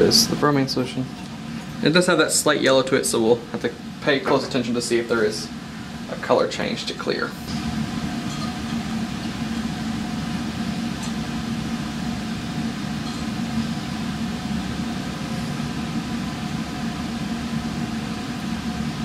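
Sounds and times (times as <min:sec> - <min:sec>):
exhaust fan humming: 0:00.0 - 0:19.0.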